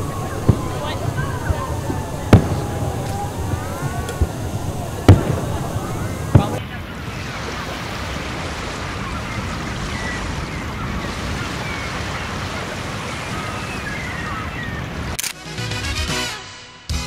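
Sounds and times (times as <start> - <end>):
steady rushing noise: 0.0 - 15.2.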